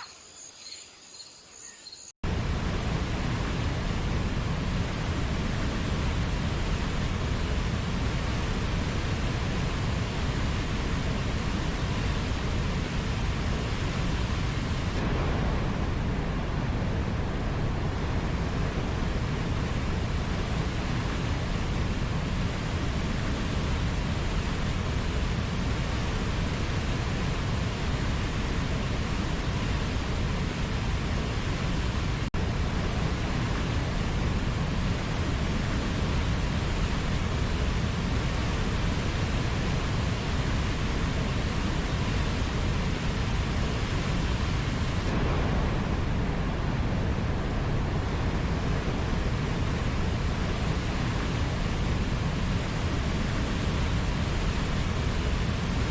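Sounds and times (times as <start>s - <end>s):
nature ambience rushing noise: 0.0s - 55.9s.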